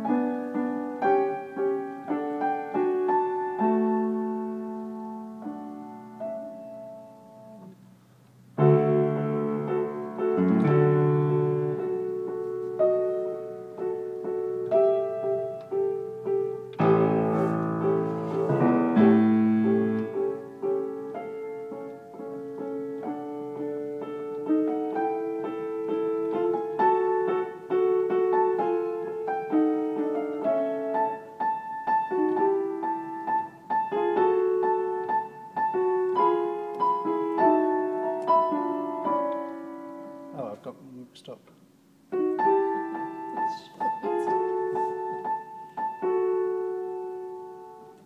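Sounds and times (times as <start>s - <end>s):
upright piano playing: 0.0s - 48.0s.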